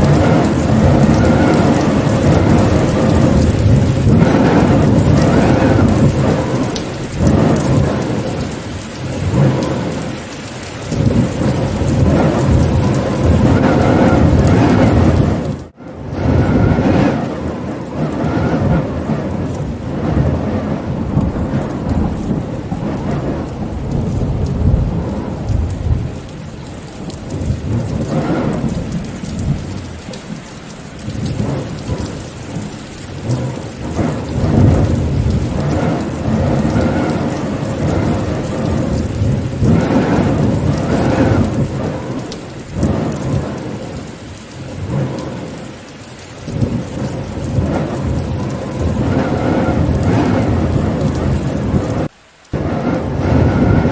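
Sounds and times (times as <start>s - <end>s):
rain falling: 0.0s - 53.9s
thunder rolling: 0.0s - 53.9s.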